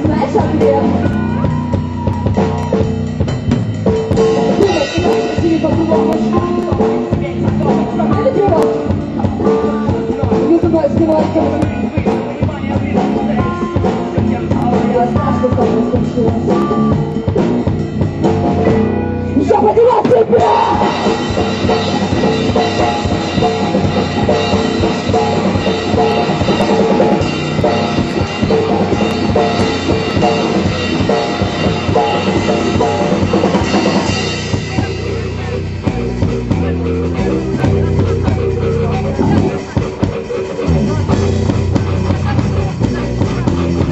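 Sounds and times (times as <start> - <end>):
drum kit: 0.0 - 43.9
live rock band playing: 0.0 - 43.9.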